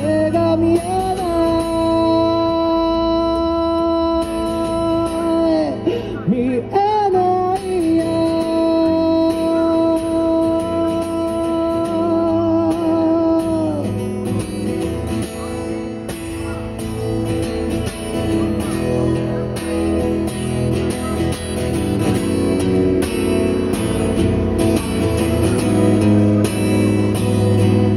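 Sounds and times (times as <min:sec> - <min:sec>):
acoustic guitar strumming: 0:00.0 - 0:27.9.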